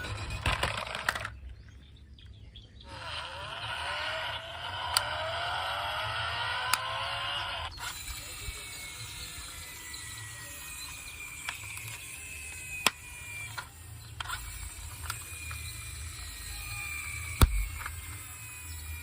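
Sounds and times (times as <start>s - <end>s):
faint high whir: 0.0s - 1.5s, 2.8s - 19.0s
toy cars clicking and knocking: 0.0s - 1.6s, 2.9s - 19.0s.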